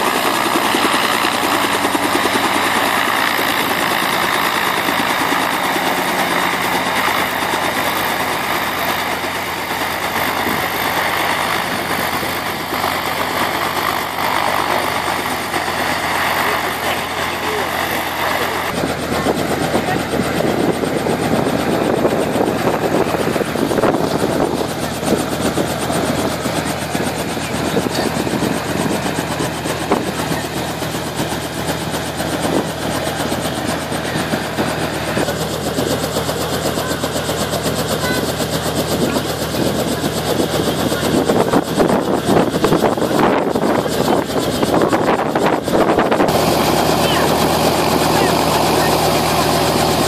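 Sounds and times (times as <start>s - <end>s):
helicopter idling: 0.0s - 50.0s.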